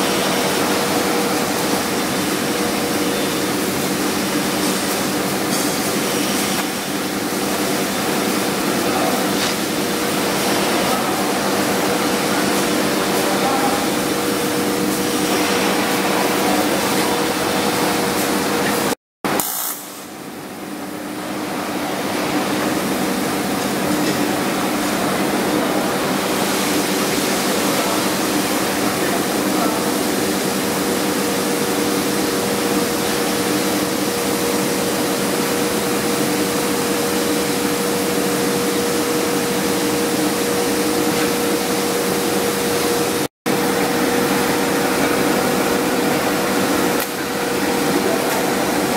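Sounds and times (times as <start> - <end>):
welding hiss and hum: 0.0 - 48.9.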